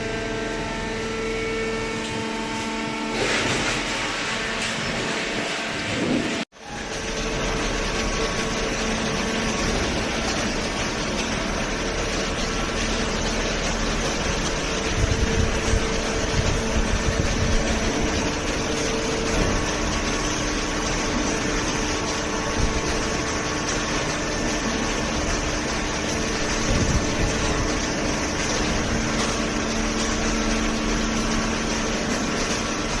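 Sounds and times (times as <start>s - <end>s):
hydraulic baler humming: 0.0s - 33.0s.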